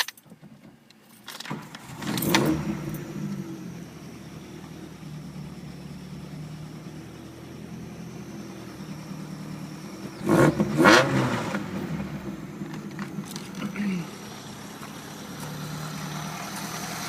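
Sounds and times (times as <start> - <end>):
truck engine idling and revving: 0.0 - 17.0.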